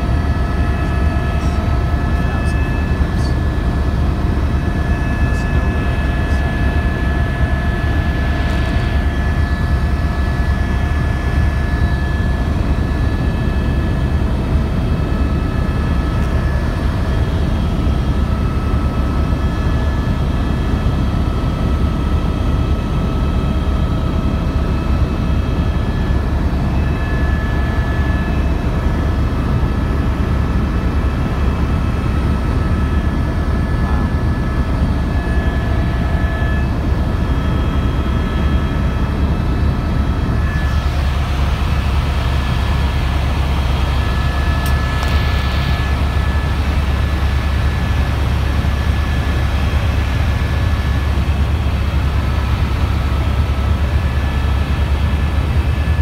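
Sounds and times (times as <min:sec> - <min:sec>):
helicopter rotor and turbine rumble: 0:00.0 - 0:56.0.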